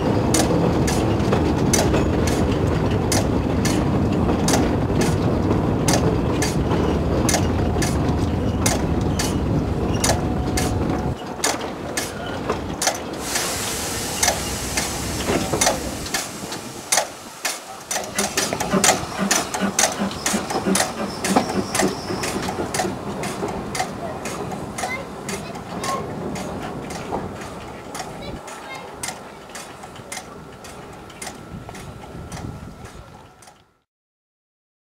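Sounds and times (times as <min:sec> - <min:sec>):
train rumbling: 0:00.0 - 0:33.8
wheels clicking over rail joints: 0:00.0 - 0:33.8.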